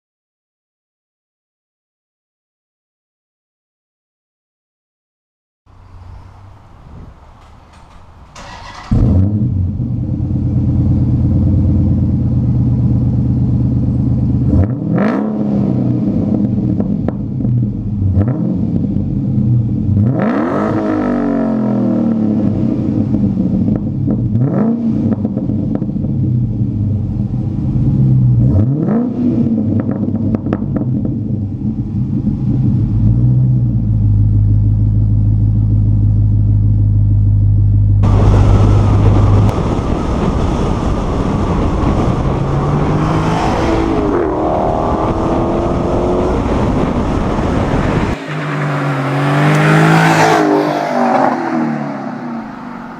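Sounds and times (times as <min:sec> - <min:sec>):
car engine idling and revving: 0:05.7 - 0:52.9
road and wind noise: 0:05.7 - 0:52.9
car accelerating: 0:08.4 - 0:52.9.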